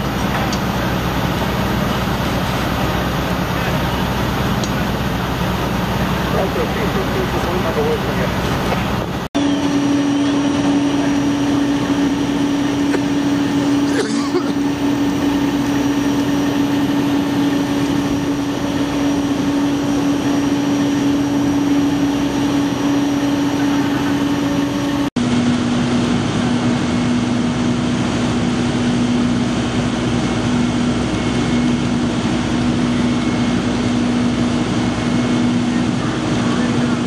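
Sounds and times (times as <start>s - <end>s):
diesel engines droning: 0.0s - 37.0s.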